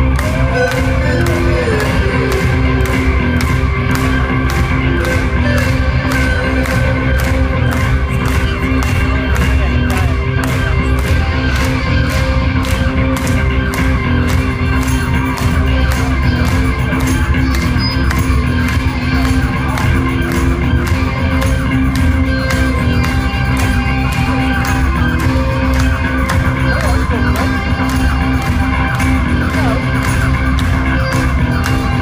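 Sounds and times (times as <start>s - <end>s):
bass: 0.0s - 32.0s
electric guitars: 0.0s - 32.0s.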